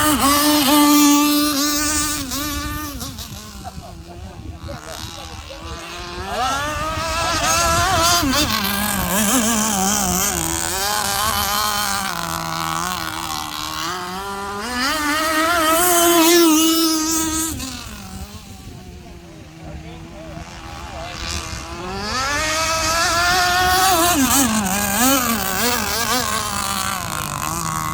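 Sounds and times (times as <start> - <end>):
model power boat engine whining: 0.0 - 27.9.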